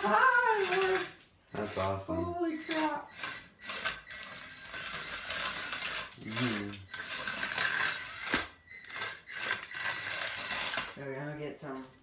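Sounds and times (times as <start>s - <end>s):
robot car motor whine: 0.0s - 11.0s.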